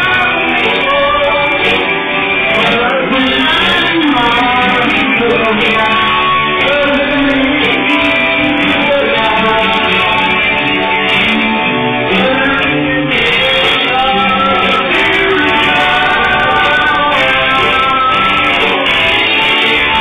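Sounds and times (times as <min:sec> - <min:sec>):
guitar: 0:00.0 - 0:20.0
live band playing: 0:00.0 - 0:20.0.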